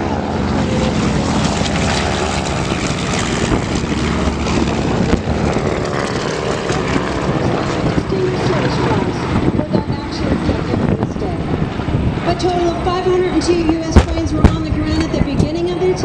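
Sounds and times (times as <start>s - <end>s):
propeller plane engines droning: 0.0s - 16.0s.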